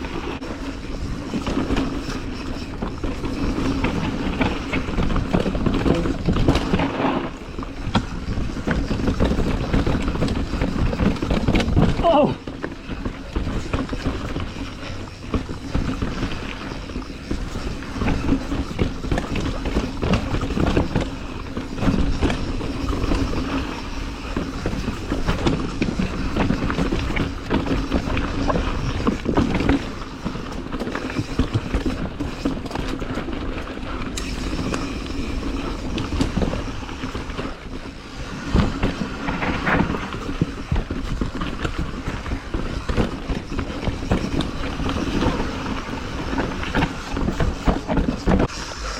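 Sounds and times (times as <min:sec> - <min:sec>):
bike chain and frame rattling: 0:00.0 - 0:48.9
bike tyres rolling over dirt and rocks: 0:00.0 - 0:48.9.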